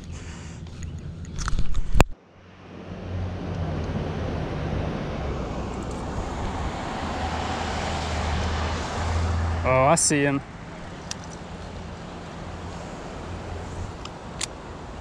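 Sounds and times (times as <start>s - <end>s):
low engine hum: 0.0s - 15.0s
road traffic noise: 0.0s - 15.0s.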